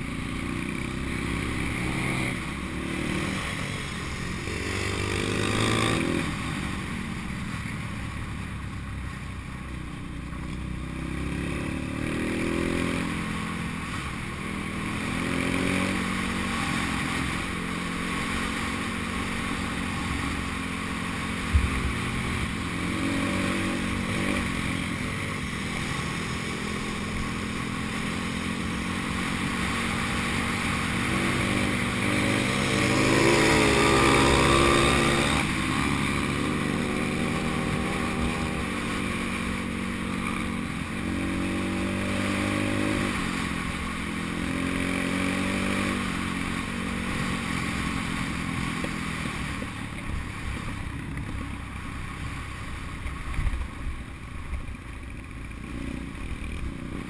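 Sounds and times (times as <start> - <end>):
pit bike engine revving: 0.0 - 6.9, 10.8 - 50.6.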